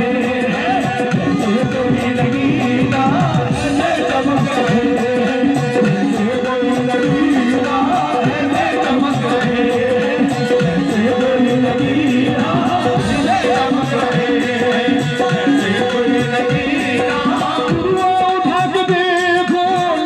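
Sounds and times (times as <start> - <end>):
harmonium melody: 0.0 - 20.0.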